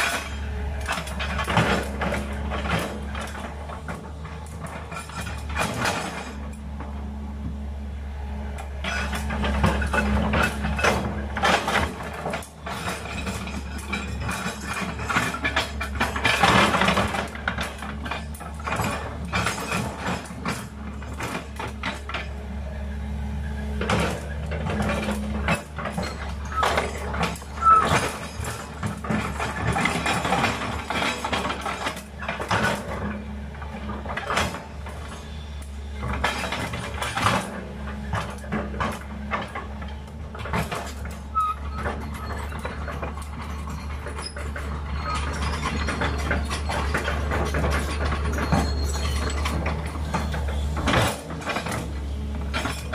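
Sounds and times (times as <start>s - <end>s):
machine clanks and knocks: 0.0s - 7.6s, 8.6s - 22.5s, 23.7s - 52.9s
excavator diesel engine running: 0.0s - 52.9s.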